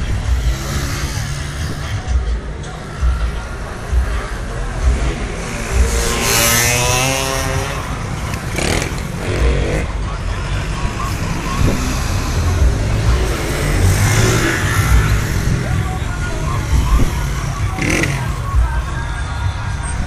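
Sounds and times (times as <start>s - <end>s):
motorcycles revving and passing: 0.0s - 20.0s.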